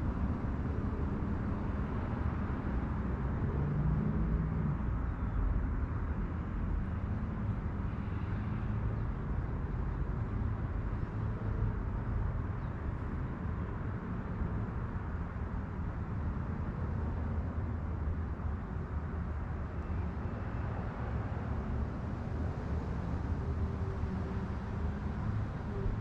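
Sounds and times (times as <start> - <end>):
low outdoor background rumble: 0.0 - 26.0.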